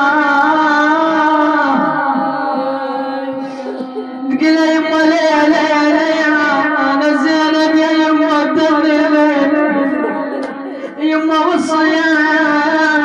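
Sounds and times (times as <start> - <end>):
woman chanting lament: 0.0 - 13.0.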